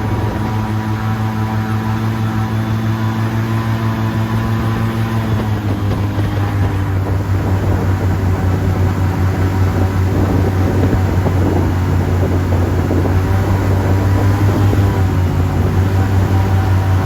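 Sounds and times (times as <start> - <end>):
airboat engine and propeller: 0.0 - 17.0.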